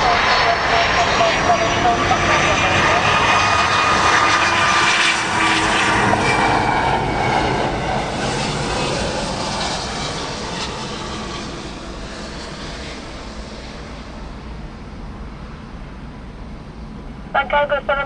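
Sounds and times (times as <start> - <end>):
airliner jet engines roaring: 0.0 - 18.0.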